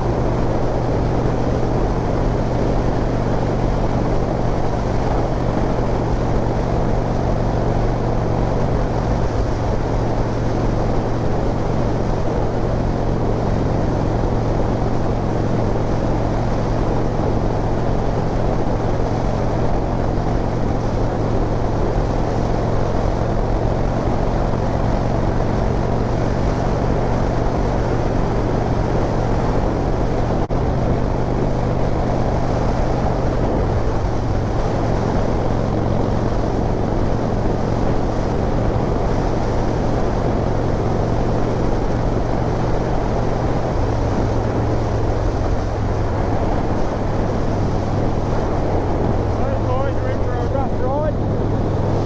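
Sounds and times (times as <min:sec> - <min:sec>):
motorcycle engine cruising: 0:00.0 - 0:52.0
wind and road noise: 0:00.0 - 0:52.0.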